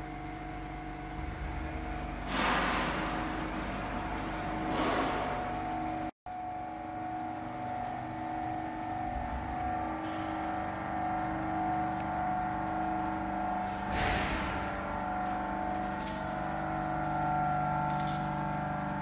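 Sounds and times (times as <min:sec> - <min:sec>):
machine hum and whine: 0:00.0 - 0:19.0.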